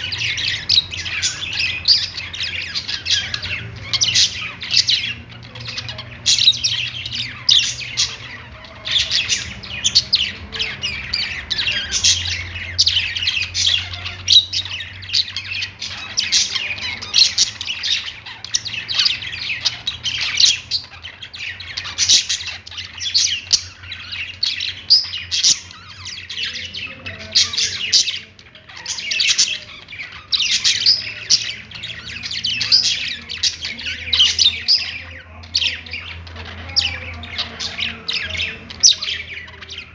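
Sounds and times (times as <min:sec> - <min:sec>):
budgies chirping and warbling: 0:00.0 - 0:39.9.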